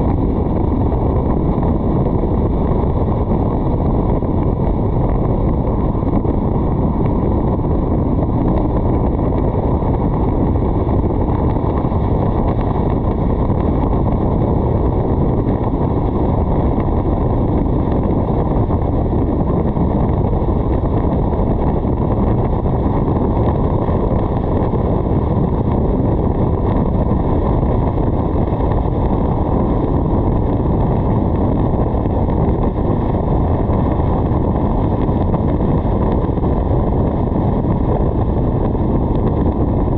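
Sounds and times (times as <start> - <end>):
road noise: 0.0 - 39.9
wind rushing over camera: 0.0 - 39.9.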